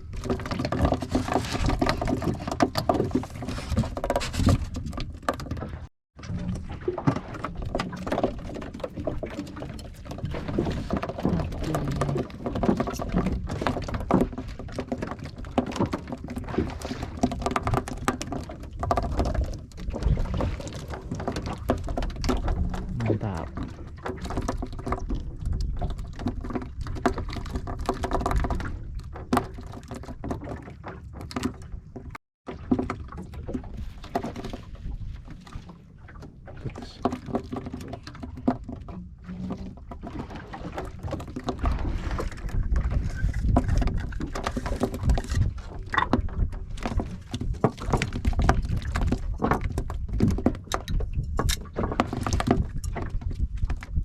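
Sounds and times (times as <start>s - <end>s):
knocks and thuds from boat: 0.0s - 54.0s
water sloshing against hull: 0.0s - 54.0s.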